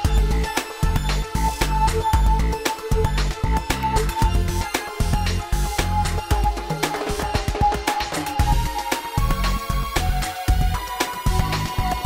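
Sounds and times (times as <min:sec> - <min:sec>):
electronic music with beat: 0:00.0 - 0:12.0.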